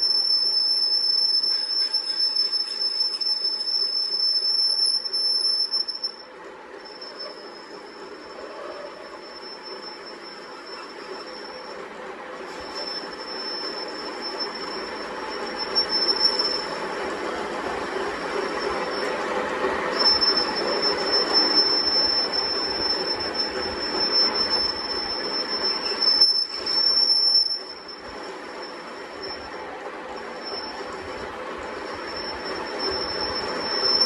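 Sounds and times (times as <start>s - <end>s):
machine high whine: 0.0s - 34.0s.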